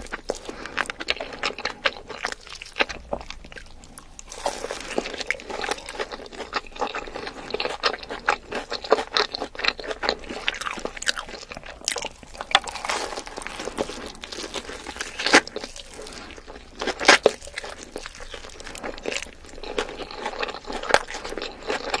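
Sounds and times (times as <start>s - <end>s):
person chewing crisp food: 0.0s - 22.0s.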